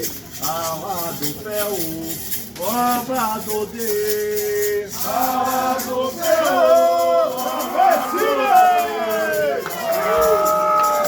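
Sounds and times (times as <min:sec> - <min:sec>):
rattle shaken in rhythm: 0:00.0 - 0:11.0.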